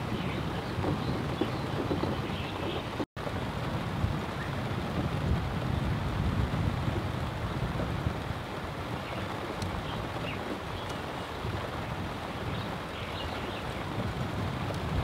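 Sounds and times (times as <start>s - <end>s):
steady rain: 0.0s - 15.0s
wind: 0.0s - 15.0s.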